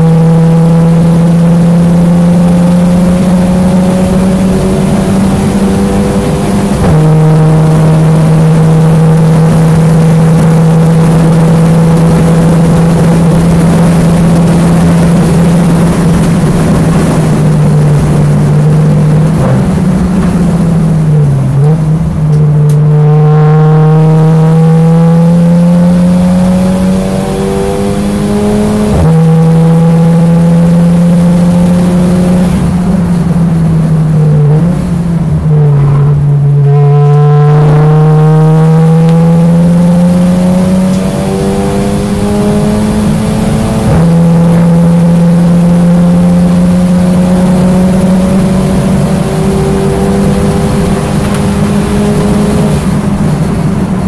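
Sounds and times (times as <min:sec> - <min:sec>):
racing car engine at high revs: 0:00.0 - 0:54.0.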